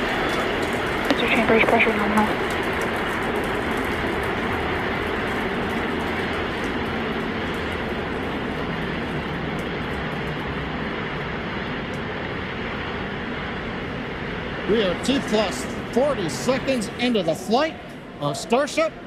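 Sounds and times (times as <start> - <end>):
rocket engines roaring: 0.0 - 19.0.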